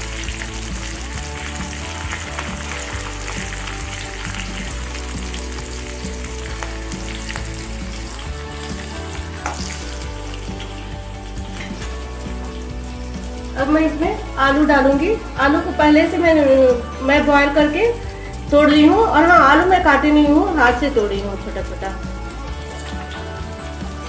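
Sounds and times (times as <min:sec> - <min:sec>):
spices sizzling in hot oil: 0:00.0 - 0:24.0.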